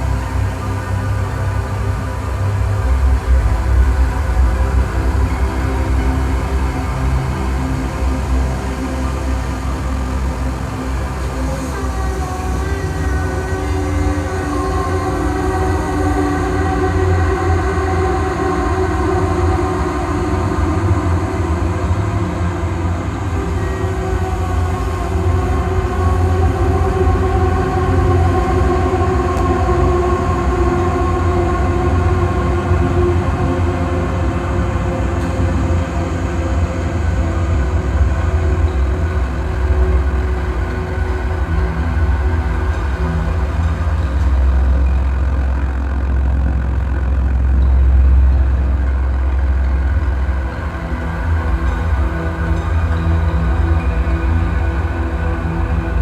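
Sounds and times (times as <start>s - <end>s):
drone metal music: 0.0s - 56.0s.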